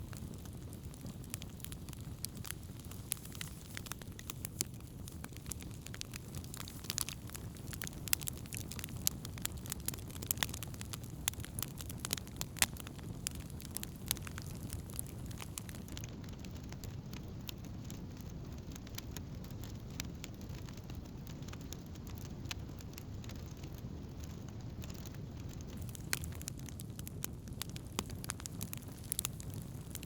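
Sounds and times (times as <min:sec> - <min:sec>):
burning wood crackling and popping: 0:00.0 - 0:30.0
campfire flames rushing: 0:00.0 - 0:30.0.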